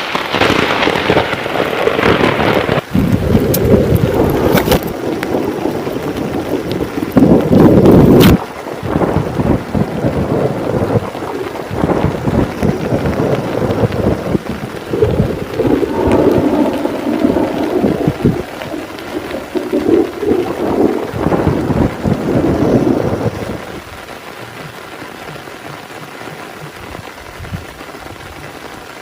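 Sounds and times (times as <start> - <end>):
heavy rain: 0.0 - 29.0
rolling thunder: 0.2 - 24.1.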